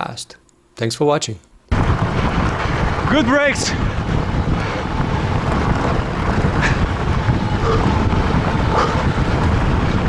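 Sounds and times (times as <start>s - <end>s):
wind buffeting microphone: 1.7s - 10.0s.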